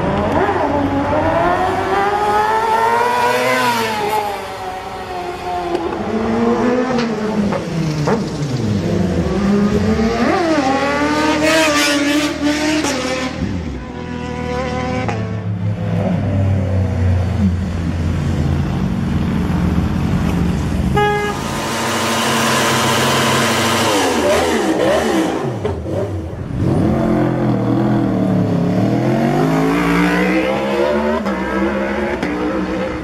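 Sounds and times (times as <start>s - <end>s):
motorcycle engines revving past: 0.0s - 18.0s, 20.1s - 33.0s.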